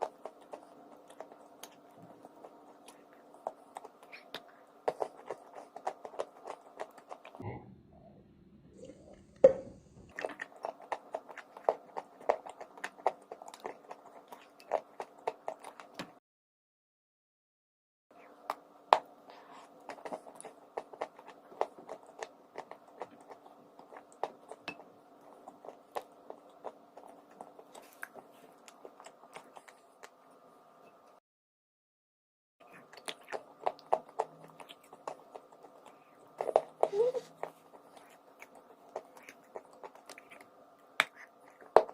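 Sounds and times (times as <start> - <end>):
crunchy chalk chewing: 0.0 - 7.4, 10.1 - 16.2, 18.2 - 30.4, 32.6 - 41.9
faint steady hum: 0.0 - 16.2, 18.1 - 31.2, 32.6 - 41.9.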